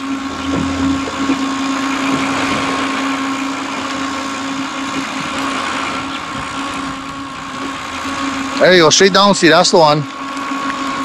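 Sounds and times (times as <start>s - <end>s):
boat motor hum: 0.0s - 11.0s
water rushing and splashing: 0.0s - 11.0s.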